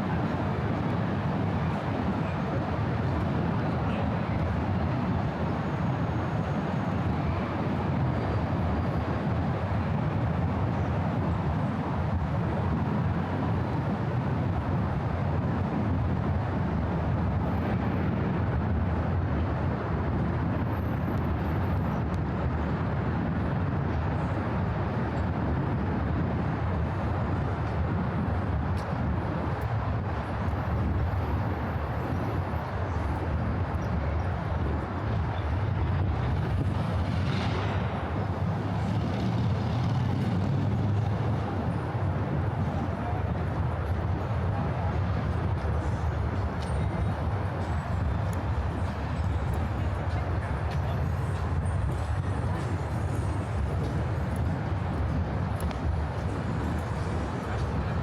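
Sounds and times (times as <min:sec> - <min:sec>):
distant city traffic roar: 0:00.0 - 0:58.0.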